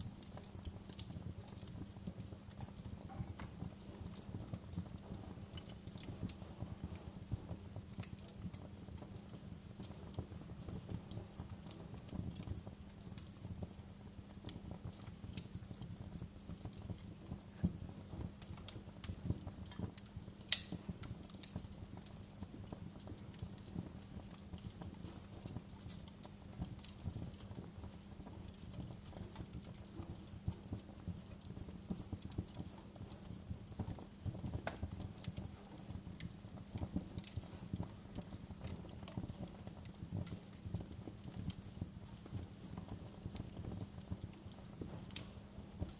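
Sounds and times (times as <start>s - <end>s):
low fire rumble: 0.0s - 45.9s
wood fire crackling and popping: 0.0s - 45.9s.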